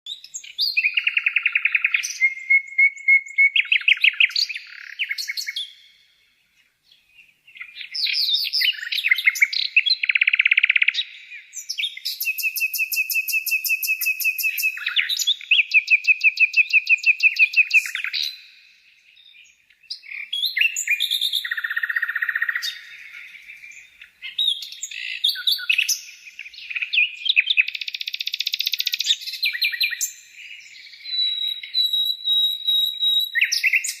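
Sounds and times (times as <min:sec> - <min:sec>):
songbirds chirping and trilling: 0:00.1 - 0:34.0.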